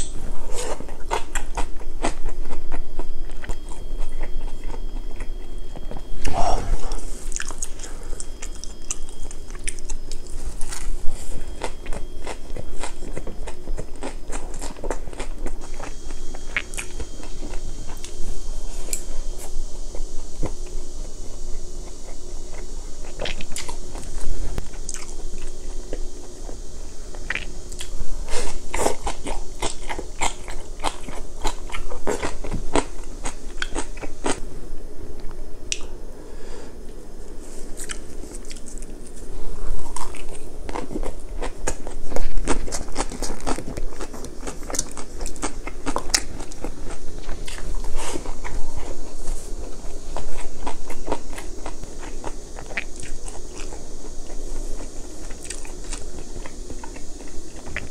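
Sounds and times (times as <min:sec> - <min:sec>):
chewing and crunching food: 0:00.0 - 0:34.4, 0:36.9 - 0:57.9.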